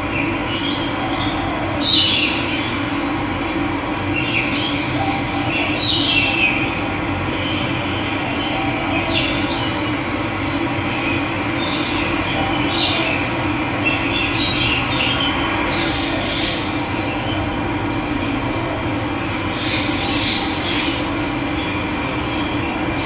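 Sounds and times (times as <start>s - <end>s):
wild birds calling: 0.0s - 23.0s.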